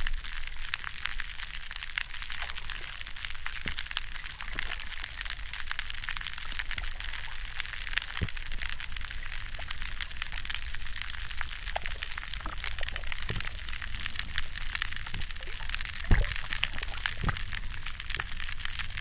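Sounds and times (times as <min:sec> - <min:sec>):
low steady rumble: 0:00.0 - 0:19.0
underwater crackle of clicks: 0:00.0 - 0:19.0.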